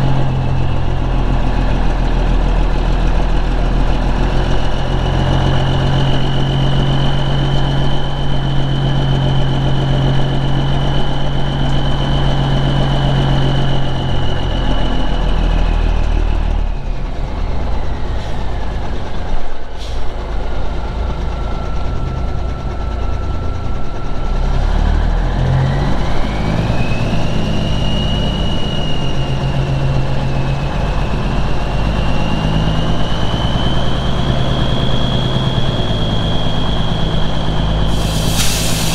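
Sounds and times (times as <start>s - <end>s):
high whine: 0.0s - 38.9s
truck engine running: 0.0s - 38.9s.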